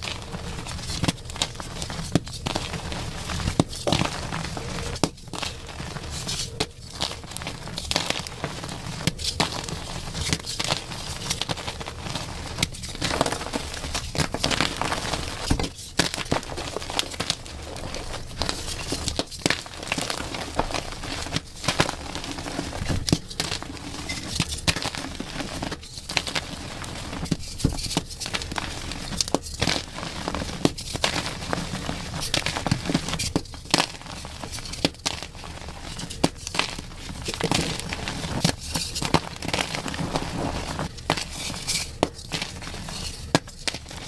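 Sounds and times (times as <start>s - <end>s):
chalk crunching: 0.0s - 44.0s.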